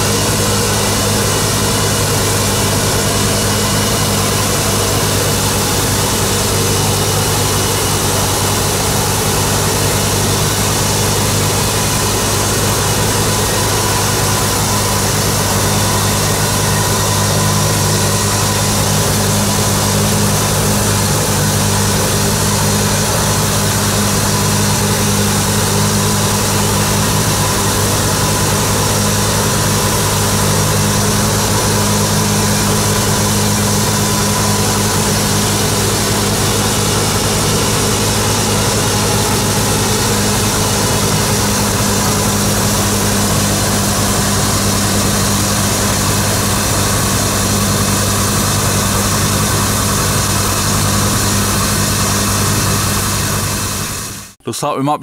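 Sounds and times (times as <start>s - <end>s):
tractor and mower engines running: 0.0s - 54.3s.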